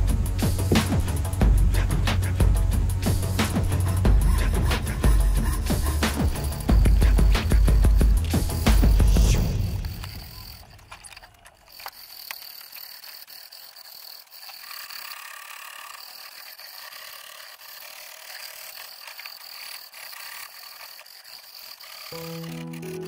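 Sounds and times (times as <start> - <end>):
saw rasping through metal: 0.3 - 23.0
sharp ticks: 0.3 - 23.0.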